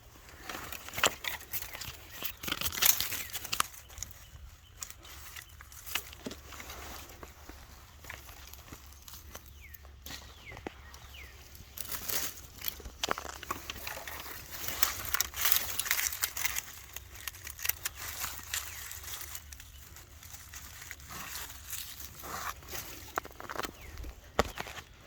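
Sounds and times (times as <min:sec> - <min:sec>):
rustling of dirt and dry leaves: 0:00.0 - 0:25.0.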